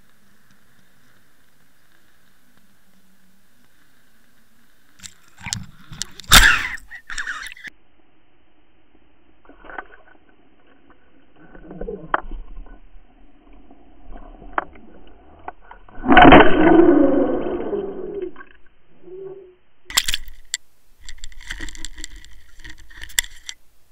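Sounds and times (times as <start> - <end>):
muffled underwater water noise: 0.0 - 23.9.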